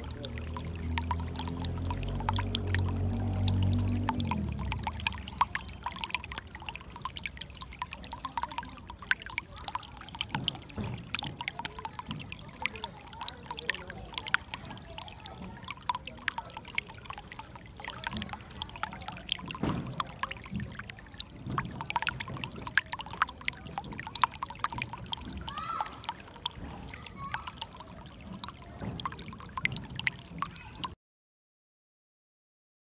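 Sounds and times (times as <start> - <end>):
water trickling over stones: 0.0 - 31.0.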